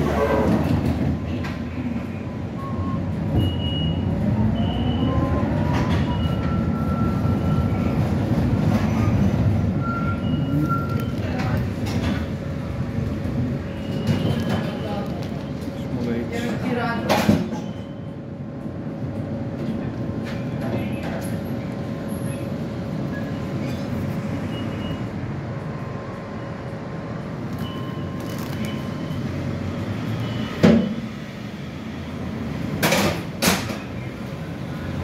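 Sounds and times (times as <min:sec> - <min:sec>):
tram rumbling on rails: 0:00.0 - 0:35.0.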